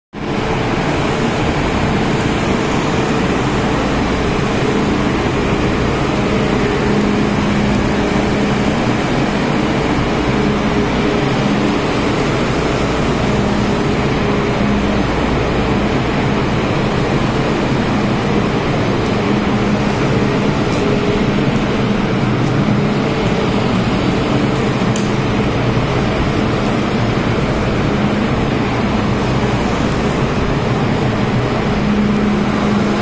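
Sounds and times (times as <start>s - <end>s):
train equipment running hum: 0.2s - 33.0s.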